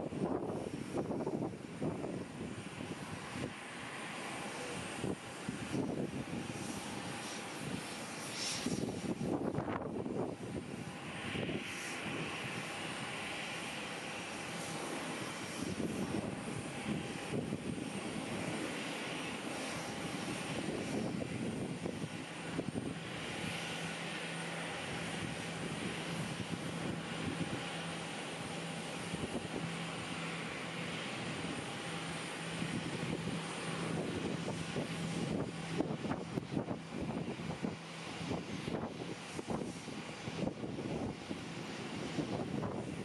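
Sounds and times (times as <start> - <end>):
airliner engines rumbling: 0.0 - 43.0
steady low hum: 0.0 - 43.0.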